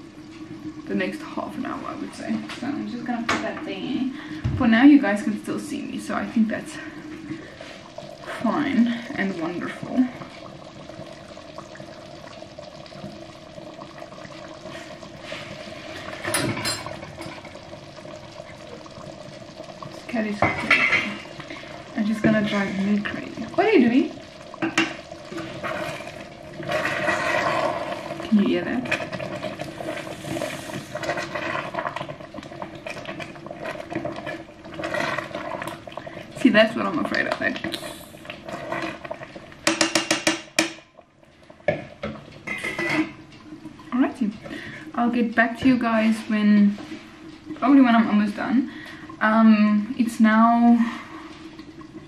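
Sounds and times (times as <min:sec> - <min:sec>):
water boiling in a pot: 0:00.0 - 0:52.0.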